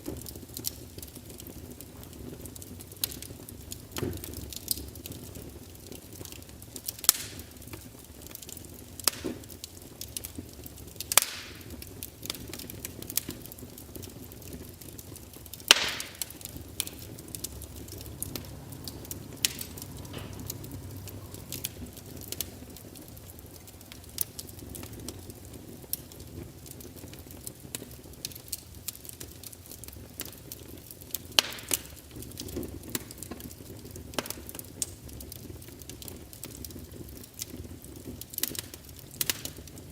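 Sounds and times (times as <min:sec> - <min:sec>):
fire crackling and popping: 0:00.0 - 0:39.9
low fire rumble: 0:00.0 - 0:39.9.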